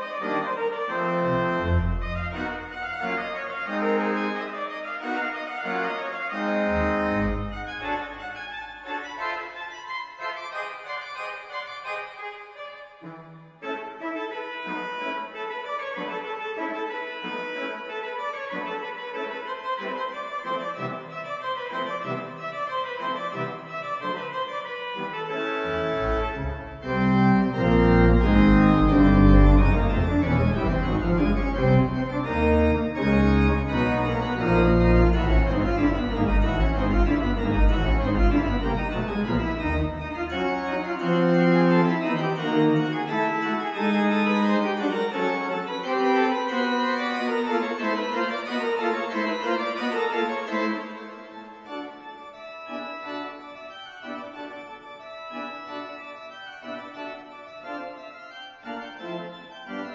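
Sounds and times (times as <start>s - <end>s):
slow organ music: 0.0s - 59.9s.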